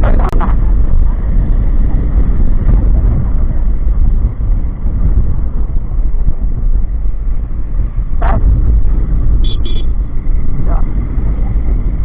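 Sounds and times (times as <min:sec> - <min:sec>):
motorcycle road noise: 0:00.0 - 0:12.0
wind buffeting microphone: 0:00.0 - 0:12.0.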